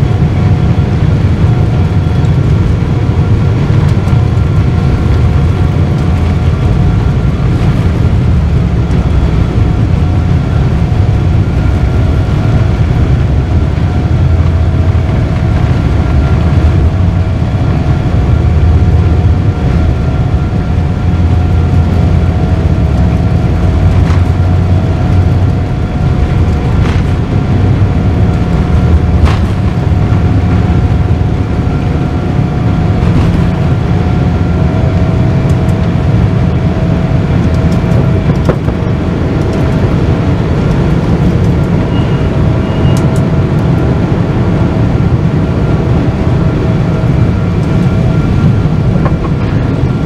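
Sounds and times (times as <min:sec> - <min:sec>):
aircraft cabin engine roar: 0:00.0 - 0:50.0
faint steady whine: 0:00.0 - 0:50.0.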